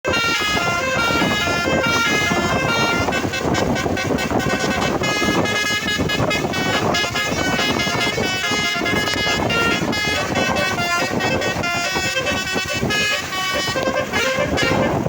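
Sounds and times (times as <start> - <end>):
multi-trumpet bus horn tune: 0.0 - 15.0
steady noise: 0.0 - 15.0.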